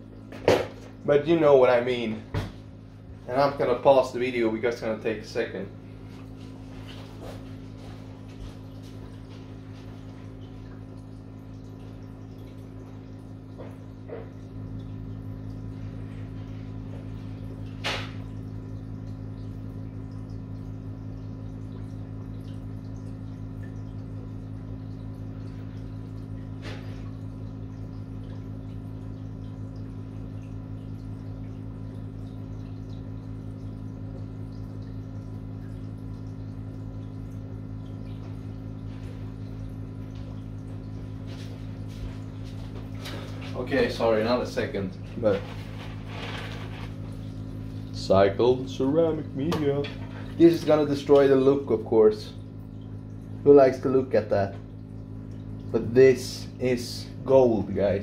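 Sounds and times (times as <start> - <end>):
aquarium air pump humming: 0.0 - 58.0
bubbles trickling and splashing: 0.0 - 58.0.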